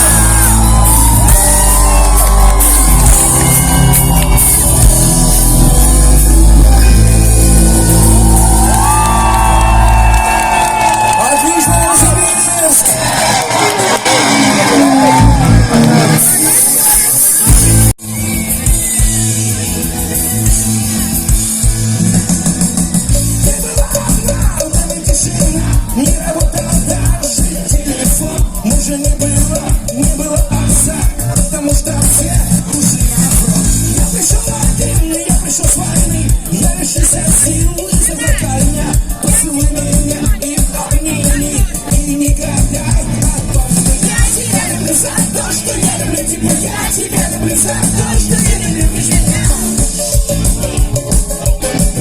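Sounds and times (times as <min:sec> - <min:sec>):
live rock band playing loudly: 0:00.0 - 0:52.0.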